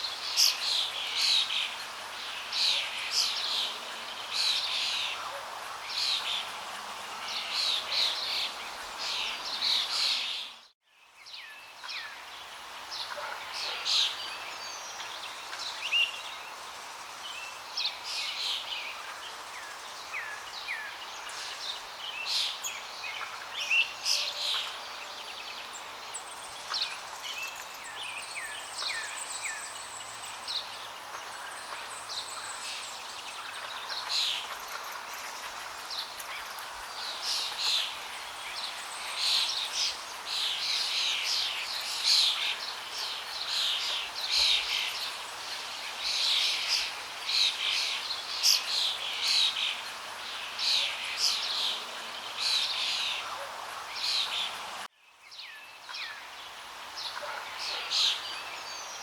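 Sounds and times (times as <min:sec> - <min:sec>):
small birds chirping: 0:07.2 - 0:59.0
flowing water hiss: 0:11.3 - 0:59.0.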